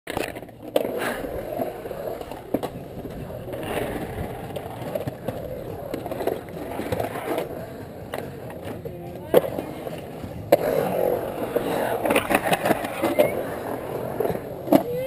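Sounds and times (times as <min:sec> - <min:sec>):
skateboard clacking on concrete: 0:00.1 - 0:15.0
skateboard wheels rolling on concrete: 0:00.1 - 0:15.0.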